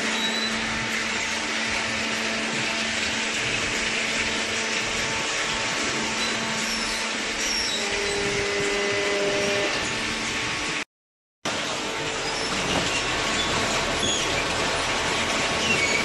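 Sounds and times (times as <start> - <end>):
hydraulic pump motor whirring: 0.0 - 10.8, 11.5 - 16.0.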